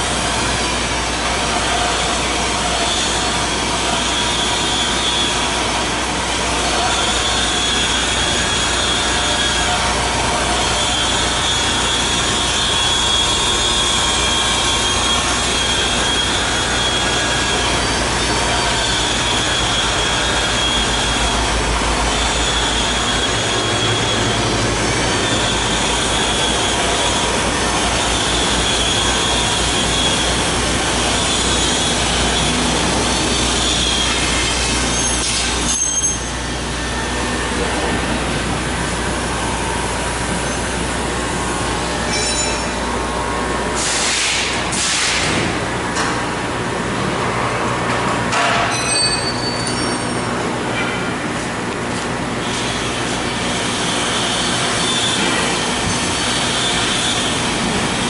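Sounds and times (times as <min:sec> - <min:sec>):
high squeal of rollers: 0:00.0 - 0:45.2, 0:48.3 - 0:51.0, 0:52.3 - 0:58.0
machine motors clattering and humming: 0:00.0 - 0:58.0.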